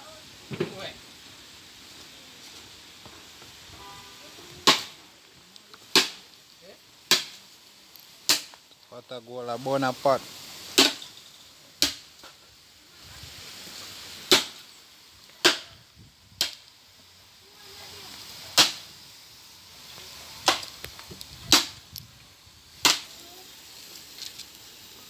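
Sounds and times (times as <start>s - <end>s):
wood fire popping: 0.4s - 25.0s.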